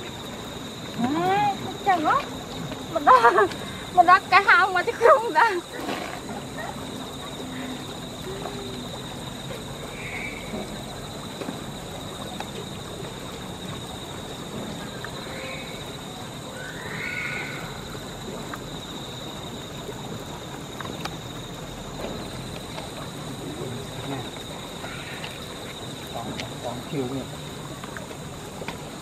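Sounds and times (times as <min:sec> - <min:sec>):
high-pitched insect drone: 0:00.0 - 0:28.4
steady hiss: 0:00.0 - 0:29.0.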